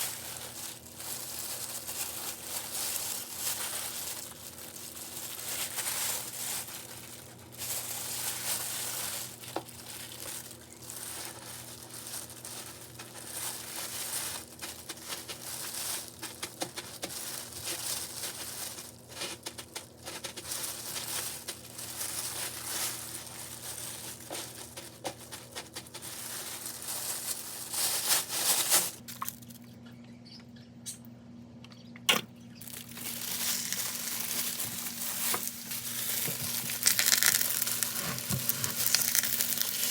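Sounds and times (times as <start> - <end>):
crinkling and rustling: 0.0 - 29.8, 32.1 - 39.9.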